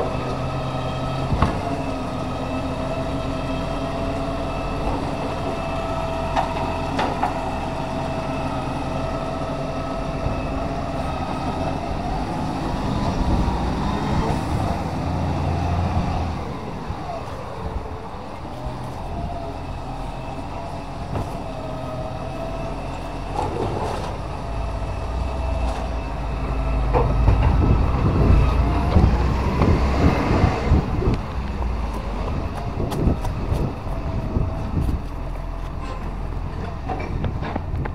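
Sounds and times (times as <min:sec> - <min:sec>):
truck engine rumbling: 0:00.0 - 0:37.9.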